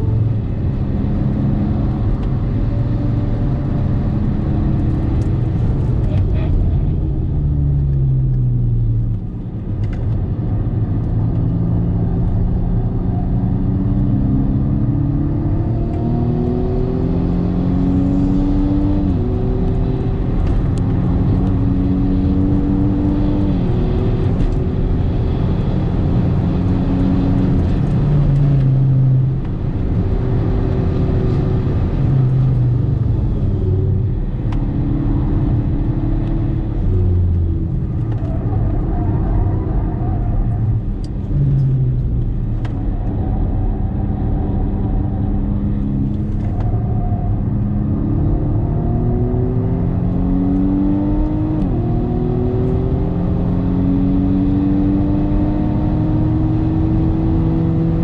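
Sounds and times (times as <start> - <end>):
car engine under hard driving: 0.0 - 58.0.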